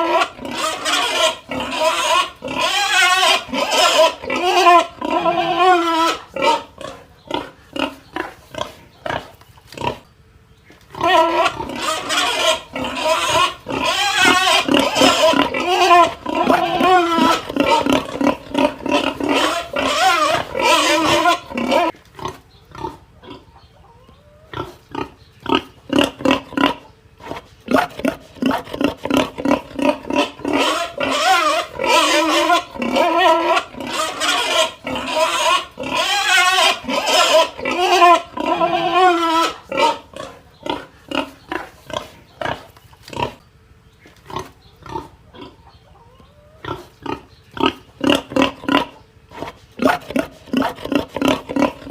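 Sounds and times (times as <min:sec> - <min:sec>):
pig grunting: 0:00.0 - 0:10.1, 0:10.7 - 0:43.4, 0:44.2 - 0:51.9
pig squealing: 0:00.0 - 0:10.1, 0:10.9 - 0:43.4, 0:44.3 - 0:51.9.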